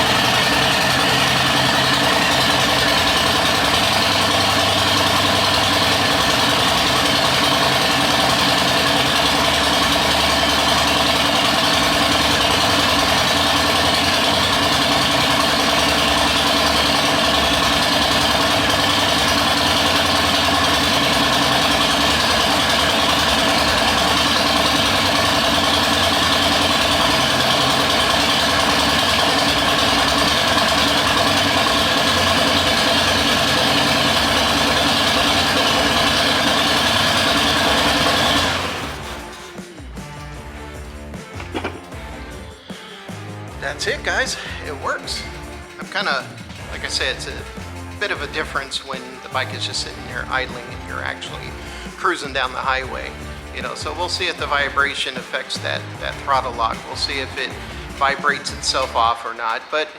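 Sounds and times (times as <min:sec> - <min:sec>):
motorcycle engine idling: 0:00.0 - 0:59.8.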